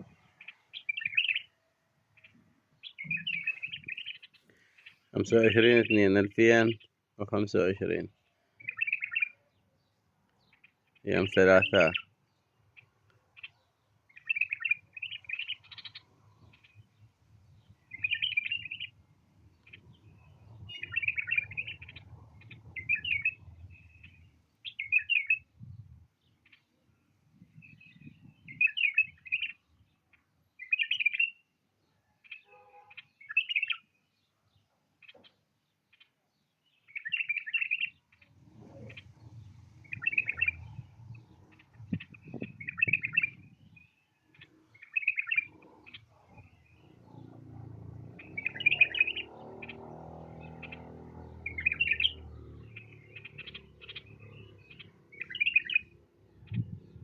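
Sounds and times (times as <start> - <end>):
bird singing chirpy phrases: 0.0 - 57.0.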